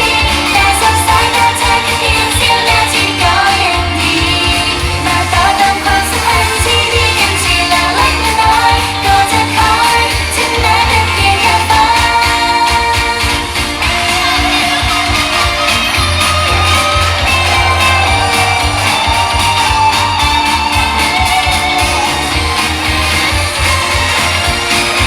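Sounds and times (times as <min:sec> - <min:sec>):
heavy bass beat: 0:00.0 - 0:25.0
pop music with woman singing: 0:00.0 - 0:25.0.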